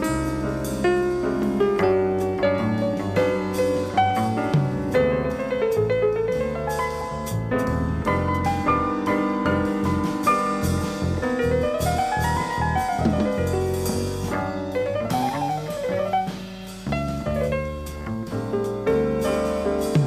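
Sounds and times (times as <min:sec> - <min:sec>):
double bass: 0:00.0 - 0:20.0
drums: 0:00.0 - 0:20.0
jazz piano solo: 0:00.0 - 0:20.0.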